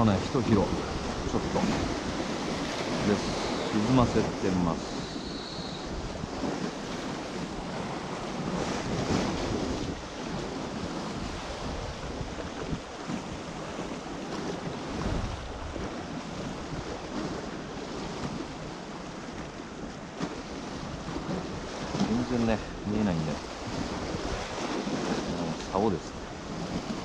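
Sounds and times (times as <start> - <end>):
sea waves on rocky shore: 0.0 - 27.0
wind buffeting microphone: 0.0 - 27.0.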